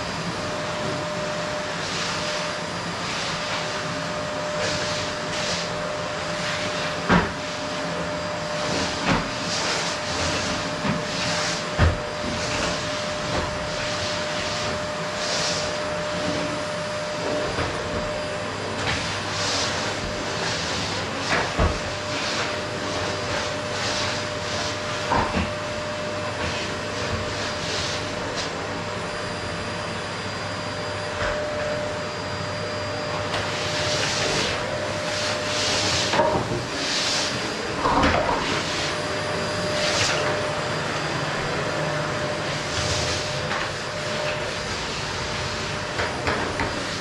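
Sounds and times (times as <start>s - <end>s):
vacuum cleaner running: 0.0s - 47.0s.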